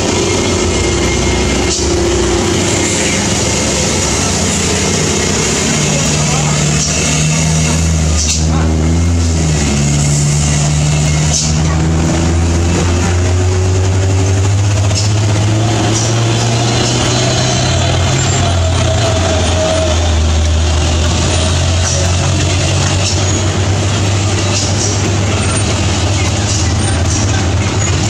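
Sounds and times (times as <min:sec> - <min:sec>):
diesel truck engines droning: 0:00.0 - 0:28.0.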